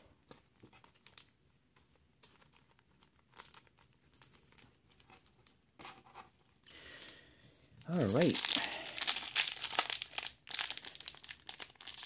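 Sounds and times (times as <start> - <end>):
plastic sleeve rustling: 0.0 - 7.2, 7.8 - 12.0.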